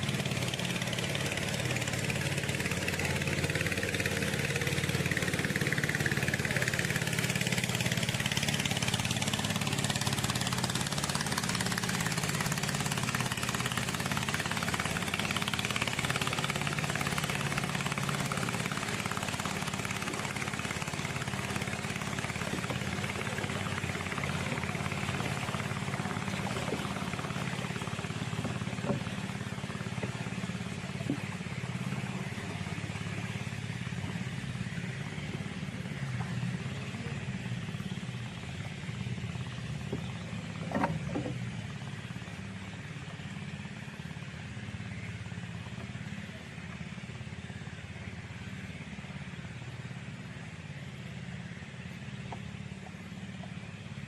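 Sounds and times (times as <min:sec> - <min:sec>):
motor droning: 0:00.0 - 0:54.0.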